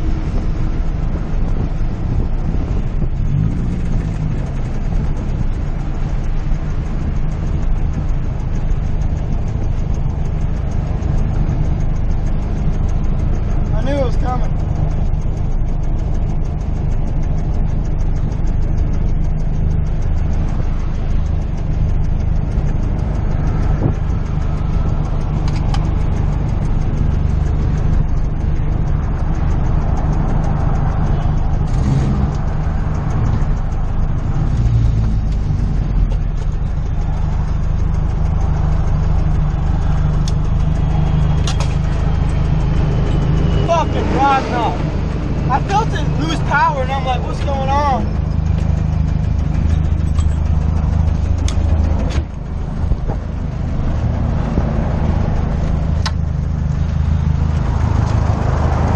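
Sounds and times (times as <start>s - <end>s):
car engine running steadily: 0.0s - 58.9s.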